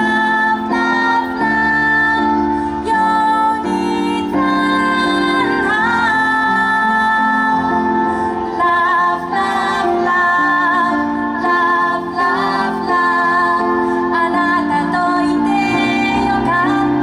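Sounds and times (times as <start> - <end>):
instrumental backing music: 0.0 - 17.0
woman singing pop song: 0.0 - 17.0.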